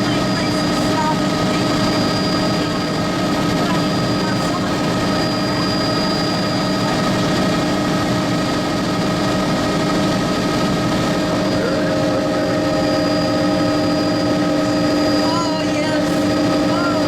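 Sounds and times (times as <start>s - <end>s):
helicopter engine and rotor drone: 0.0s - 17.0s
high whine: 0.0s - 17.0s.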